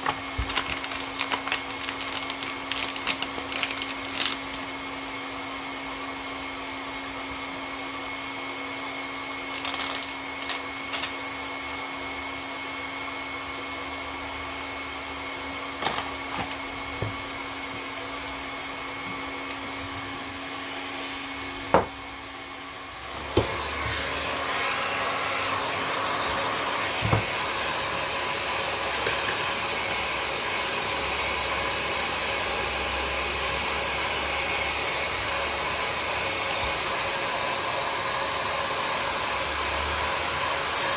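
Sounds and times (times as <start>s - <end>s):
air blower running: 0.0s - 40.9s.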